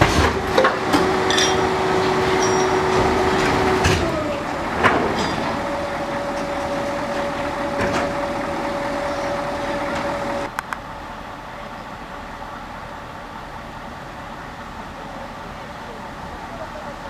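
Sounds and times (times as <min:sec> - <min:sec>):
heavy machine engine rumble: 0:00.0 - 0:17.0.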